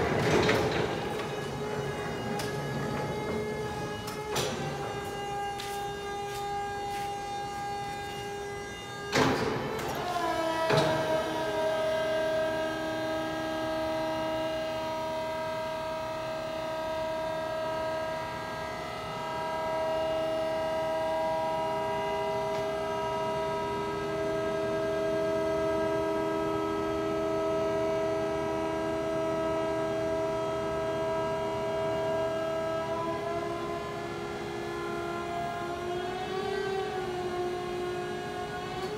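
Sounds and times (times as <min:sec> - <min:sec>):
hydraulic pump motor whining: 0:00.0 - 0:38.9.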